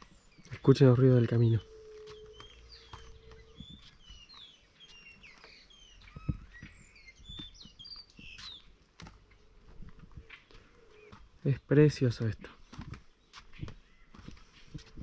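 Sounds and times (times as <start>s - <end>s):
birds chirping and singing: 0.0s - 15.0s
footsteps on wooden boards: 1.9s - 11.4s, 12.4s - 15.0s.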